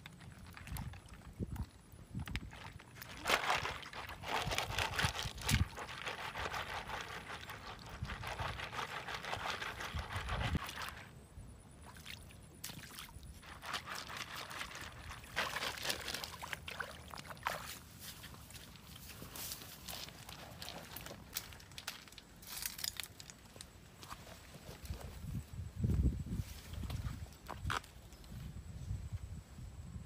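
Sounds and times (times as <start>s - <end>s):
water splashing and sloshing: 0.0s - 11.1s, 11.8s - 24.9s.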